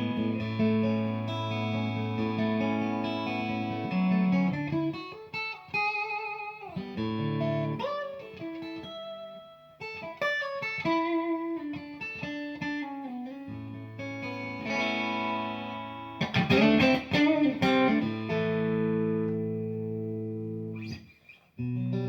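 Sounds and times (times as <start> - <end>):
electric guitar chords and lines: 0.0 - 22.0.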